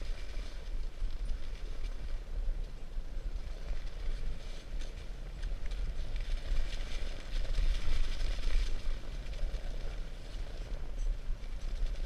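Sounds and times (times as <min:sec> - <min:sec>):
sled rattling: 0:00.0 - 0:12.0
sled runners scraping snow: 0:00.0 - 0:12.0.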